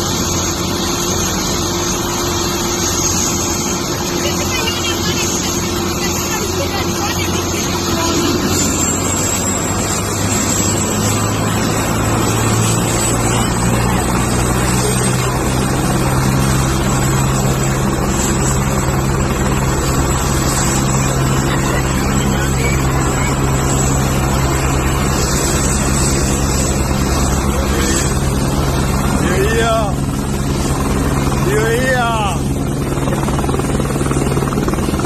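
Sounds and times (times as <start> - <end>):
helicopter running: 0.0 - 35.0.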